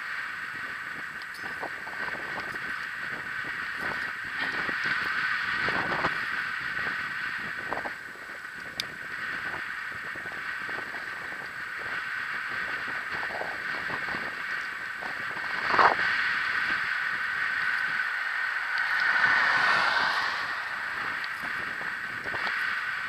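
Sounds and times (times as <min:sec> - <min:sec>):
faint clicks over pavement: 0:00.0 - 0:23.0
longboard wheels rolling on asphalt: 0:00.0 - 0:23.0.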